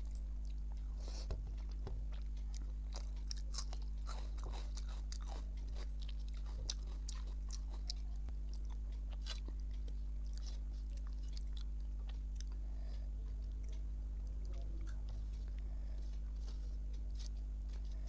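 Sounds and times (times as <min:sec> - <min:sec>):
food crunches: 0:00.0 - 0:18.0
low hum: 0:00.0 - 0:18.0
person chewing food: 0:00.0 - 0:18.0.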